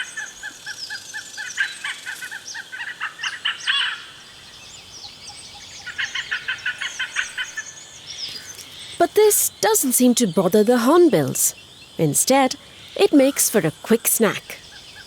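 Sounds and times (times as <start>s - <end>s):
small birds high chirps: 0.0s - 15.0s.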